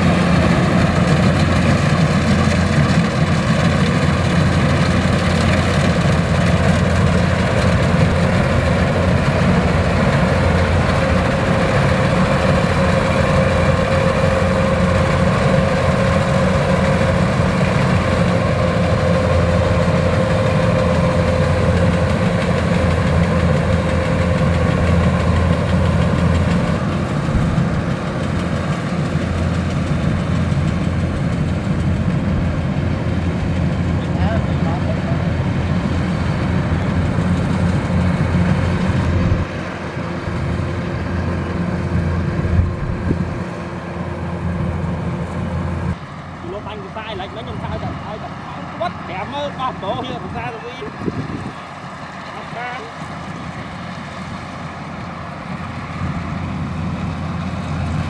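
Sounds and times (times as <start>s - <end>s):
diesel engine humming: 0.0s - 58.0s.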